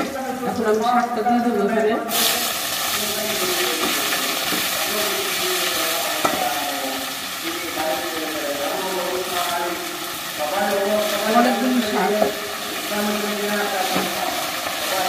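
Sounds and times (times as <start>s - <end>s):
greens sizzling in hot oil: 0.0s - 1.2s, 2.1s - 15.0s.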